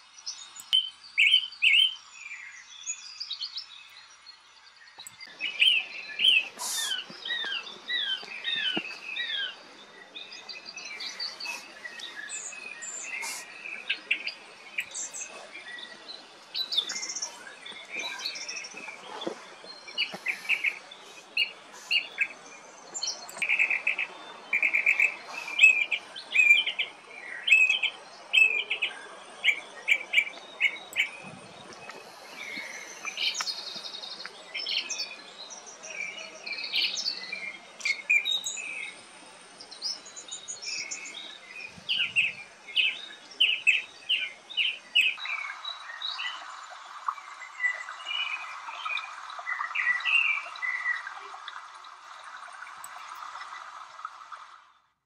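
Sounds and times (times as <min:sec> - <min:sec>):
small songbirds chirping: 0:00.0 - 0:54.9.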